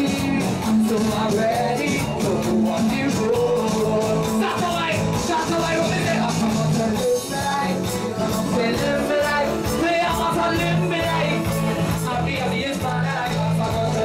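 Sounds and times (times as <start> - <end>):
electric guitars: 0.0 - 14.0
man singing into a microphone: 0.0 - 14.0
steady drum beat: 0.0 - 14.0.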